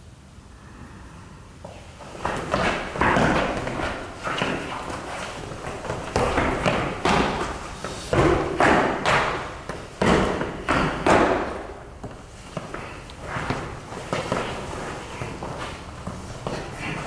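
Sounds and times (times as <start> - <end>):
feet stamping on wooden floor: 2.0 - 17.0.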